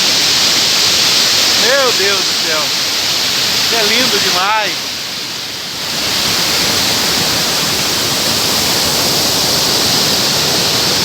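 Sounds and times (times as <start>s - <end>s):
large waterfall rushing: 0.0s - 11.0s.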